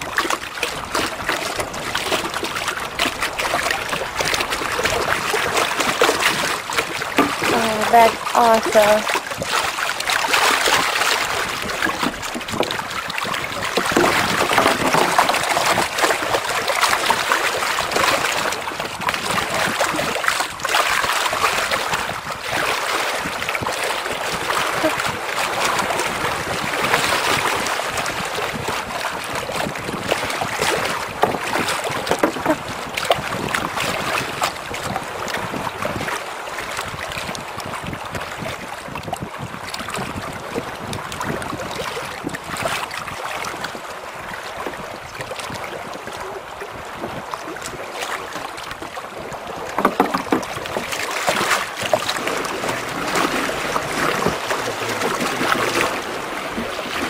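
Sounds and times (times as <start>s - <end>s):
water splashing around boat: 0.0s - 57.0s
wind buffeting microphone: 0.0s - 57.0s.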